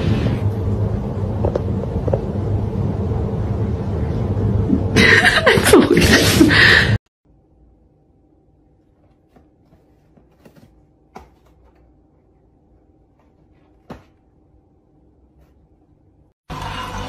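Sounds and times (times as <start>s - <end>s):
low steady hum: 0.0s - 16.3s.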